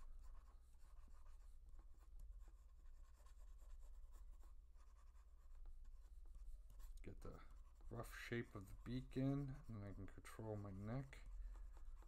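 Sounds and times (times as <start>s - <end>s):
stylus scratching on tablet: 0.0s - 12.0s.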